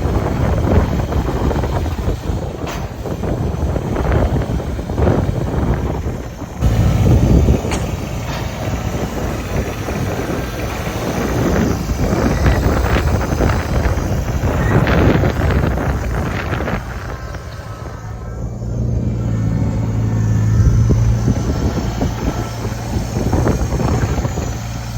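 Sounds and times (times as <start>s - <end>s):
tractor engine running: 0.0s - 24.9s
wind buffeting microphone: 0.0s - 24.9s.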